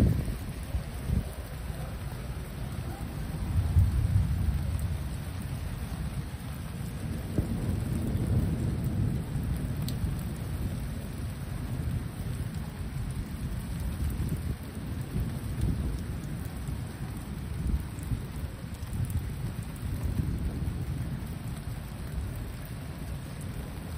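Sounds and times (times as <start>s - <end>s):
rolling thunder: 0.0s - 23.9s
steady rain: 0.0s - 23.9s.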